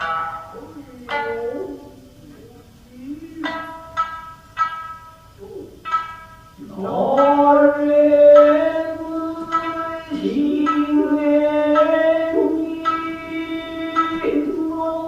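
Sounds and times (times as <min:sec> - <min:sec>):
person singing long notes: 0:00.0 - 0:04.7, 0:05.3 - 0:15.0
shamisen plucking: 0:00.0 - 0:15.0.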